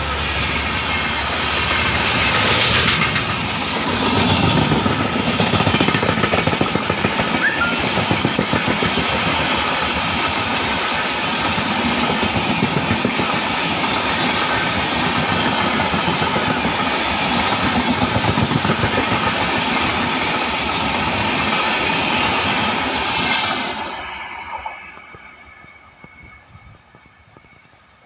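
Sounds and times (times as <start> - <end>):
steel wheels rumbling on rails: 0.0 - 28.0
rapid clickety-clack of wheels: 0.8 - 24.0.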